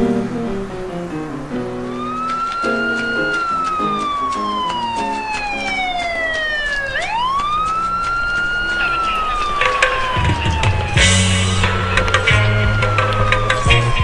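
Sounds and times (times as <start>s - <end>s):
piano music: 0.0s - 14.0s
emergency siren wailing: 1.4s - 14.0s.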